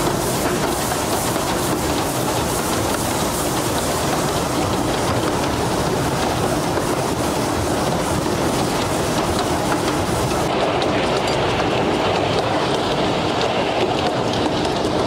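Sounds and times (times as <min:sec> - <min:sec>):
steam hiss: 0:00.0 - 0:12.4
rail-joint clicks: 0:00.0 - 0:15.0
steam train wheels rumbling on rail: 0:00.0 - 0:15.0.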